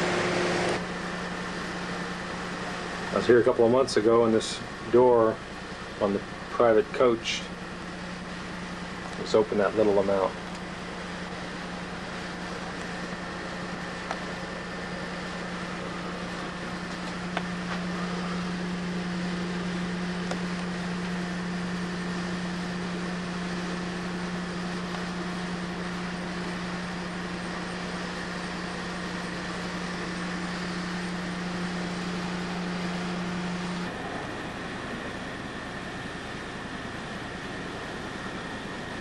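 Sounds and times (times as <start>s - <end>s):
machine hum: 0.0s - 39.0s.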